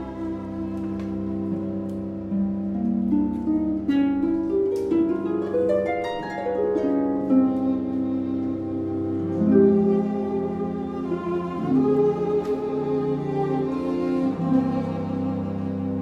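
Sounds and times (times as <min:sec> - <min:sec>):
harp plucked notes: 0:00.0 - 0:16.0
strings sustained notes: 0:00.0 - 0:16.0.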